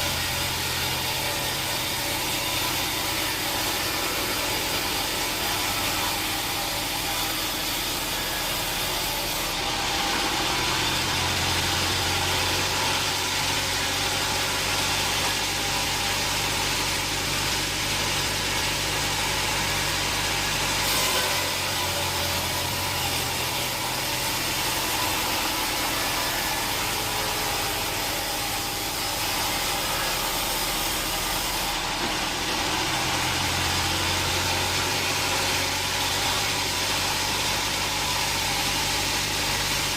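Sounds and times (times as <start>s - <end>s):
sawmill engine hum and hiss: 0.0s - 39.9s.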